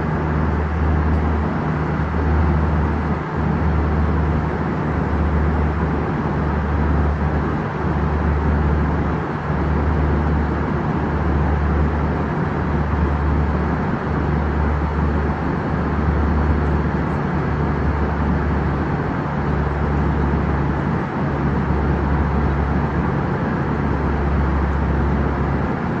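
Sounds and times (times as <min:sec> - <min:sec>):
moving vehicle running noise: 0:00.0 - 0:26.0.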